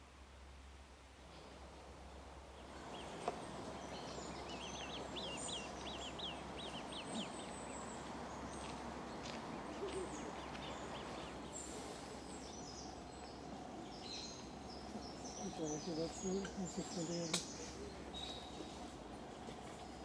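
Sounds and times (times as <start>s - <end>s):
bird chirping: 2.6s - 18.8s.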